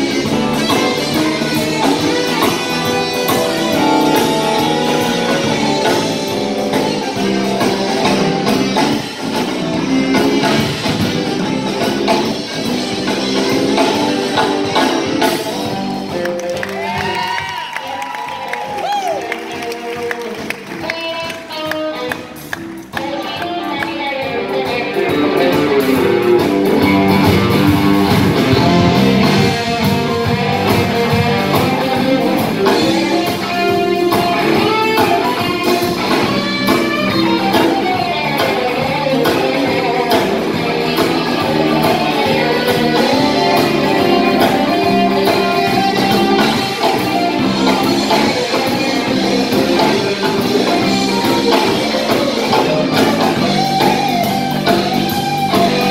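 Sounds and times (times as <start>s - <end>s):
electric bass: 0.0s - 17.7s, 18.4s - 55.9s
drum kit: 0.0s - 55.9s
electric guitars: 0.0s - 55.9s.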